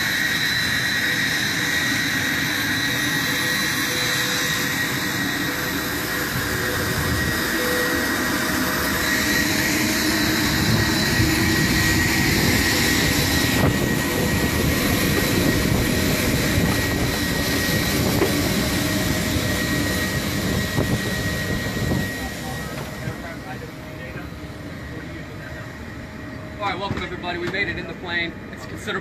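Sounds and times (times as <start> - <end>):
gas turbine roar with high whine: 0.0 - 29.0.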